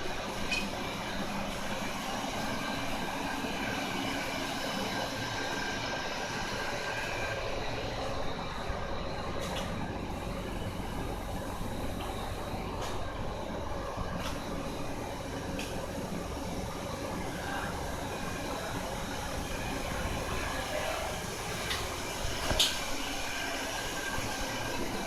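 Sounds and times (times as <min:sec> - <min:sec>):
burner and boiler rumbling: 0:00.0 - 0:25.0.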